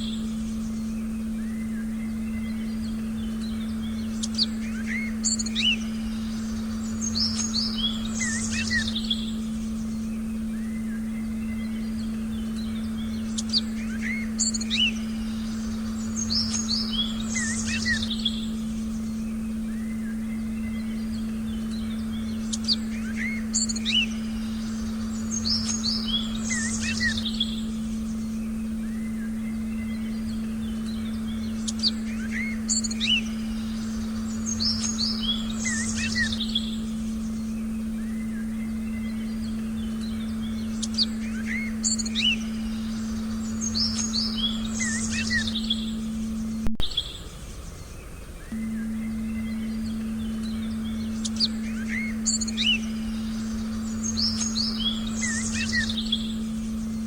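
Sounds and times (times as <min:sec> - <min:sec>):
birds chirping: 0:00.0 - 0:57.0
low electronic tone: 0:01.9 - 0:47.0, 0:48.5 - 0:57.0.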